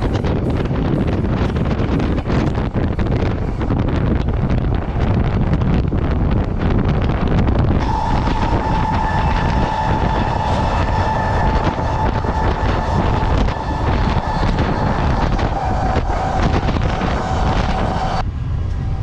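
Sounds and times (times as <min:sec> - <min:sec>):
train clicks: 0:00.0 - 0:18.8
freight train rumbling: 0:00.0 - 0:19.0
high whine: 0:00.0 - 0:19.0
wind buffeting microphone: 0:00.0 - 0:19.0.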